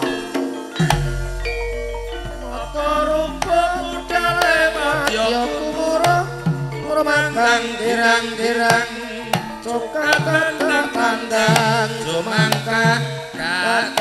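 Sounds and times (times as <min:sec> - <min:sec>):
hand drum strokes: 0:00.0 - 0:14.0
metallophones: 0:00.0 - 0:14.0
person singing: 0:02.2 - 0:14.0.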